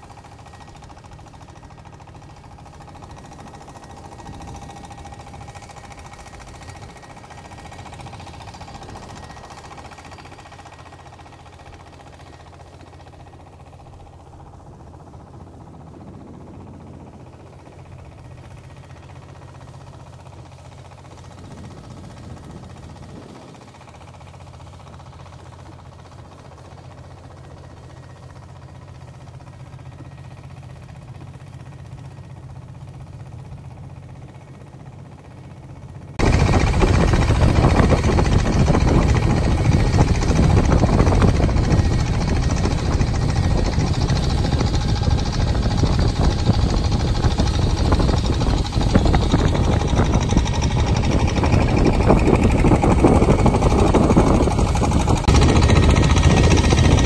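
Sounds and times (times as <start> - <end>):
loud engine-like running noise: 0.0 - 57.0.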